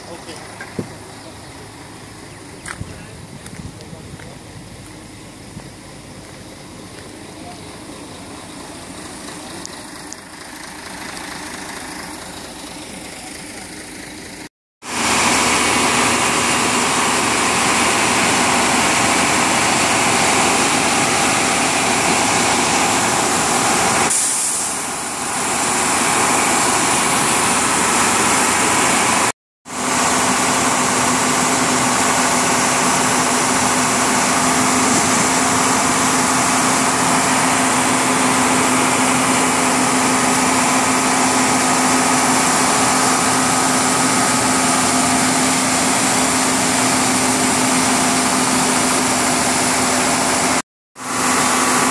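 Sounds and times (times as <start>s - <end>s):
heavy vehicle engine running: 0.0s - 51.9s.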